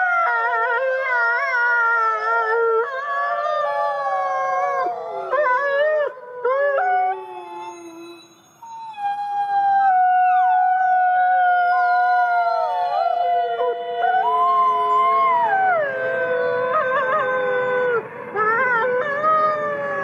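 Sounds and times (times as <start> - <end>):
wolves howling in chorus: 0.0 - 8.2, 8.8 - 20.0
wolf howling close by: 0.0 - 20.0.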